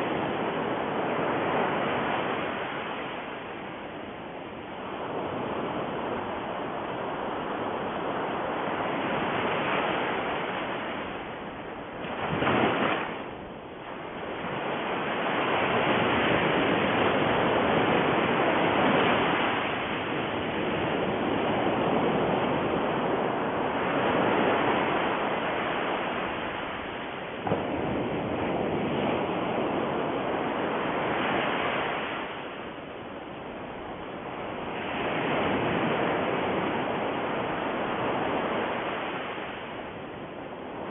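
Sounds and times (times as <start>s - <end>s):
ocean waves: 0.0s - 40.9s.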